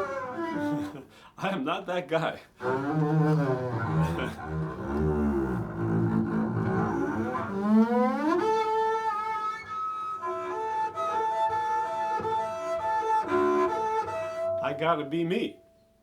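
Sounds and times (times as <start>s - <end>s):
bowed string instrument: 0.0s - 1.3s, 2.6s - 16.0s.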